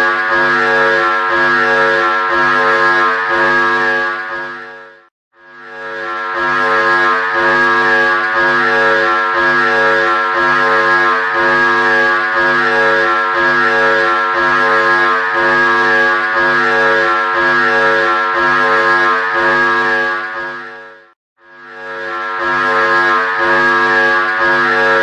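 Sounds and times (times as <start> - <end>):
pulsing buzzy alarm tone: 0.0 - 25.0.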